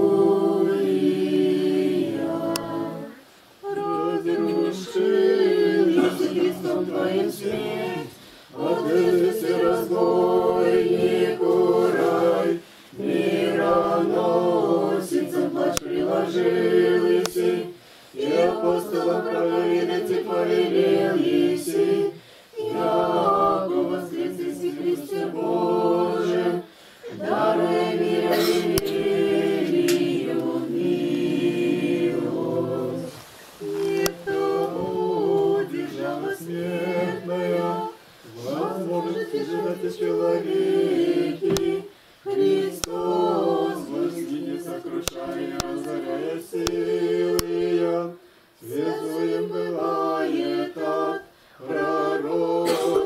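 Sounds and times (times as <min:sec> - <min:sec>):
small choir chanting: 0:00.0 - 0:53.0.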